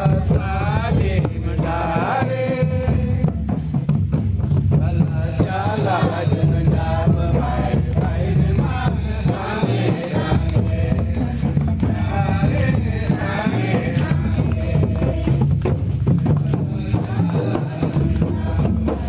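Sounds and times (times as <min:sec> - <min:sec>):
crowd singing devotional song: 0:00.0 - 0:19.0
hand-beaten barrel drums: 0:00.0 - 0:19.0.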